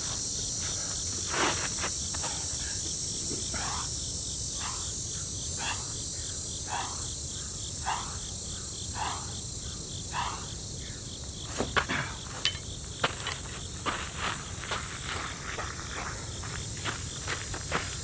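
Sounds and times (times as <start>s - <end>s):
insect chorus droning: 0.0s - 18.0s.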